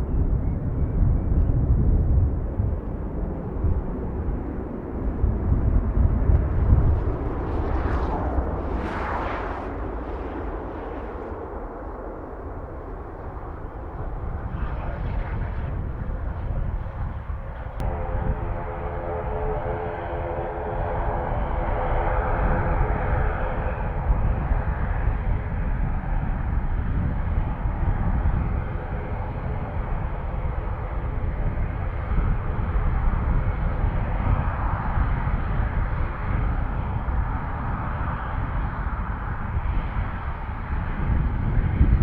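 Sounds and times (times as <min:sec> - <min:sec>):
aircraft engine low rumble: 0:00.0 - 0:42.0
aircraft engine whine: 0:00.0 - 0:42.0.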